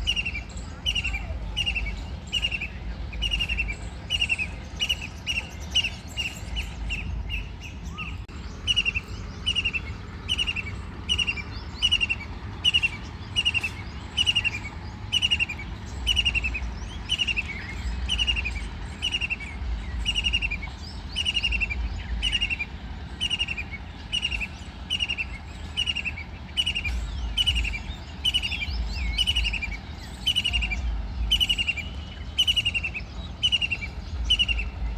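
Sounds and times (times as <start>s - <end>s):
kingfisher calling: 0.0s - 34.9s.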